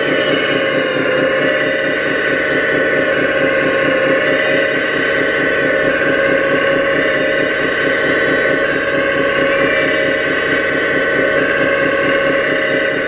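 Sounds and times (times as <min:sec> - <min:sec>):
model excavator whining and throbbing: 0:00.0 - 0:13.0.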